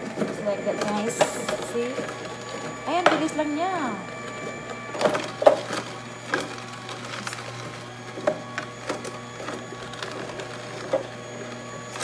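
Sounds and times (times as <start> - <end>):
juicer motor humming: 0.0 - 12.0.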